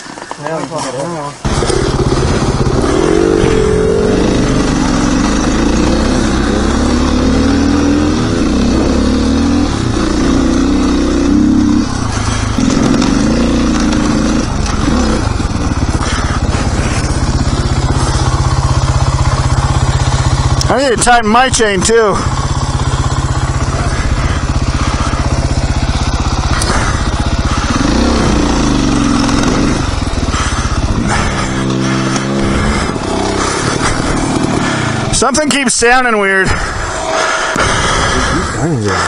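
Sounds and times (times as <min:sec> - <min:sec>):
dirt bike engine revving: 0:01.4 - 0:39.0.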